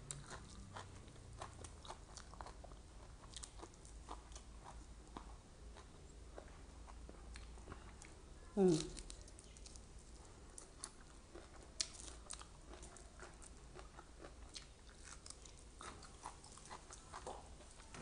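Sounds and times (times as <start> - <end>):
person chewing leafy greens: 0.0 - 18.0.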